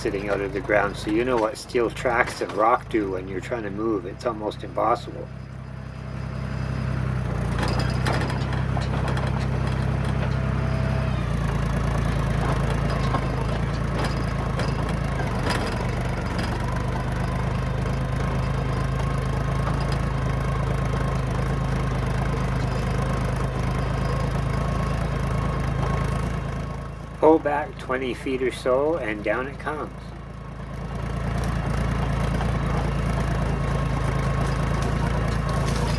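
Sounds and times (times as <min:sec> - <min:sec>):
dozer diesel engine under load: 0:00.0 - 0:35.9.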